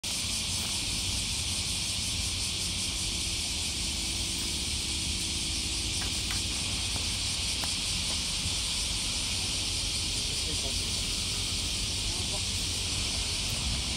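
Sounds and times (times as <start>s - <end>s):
cicadas chorus: 0.0s - 13.9s.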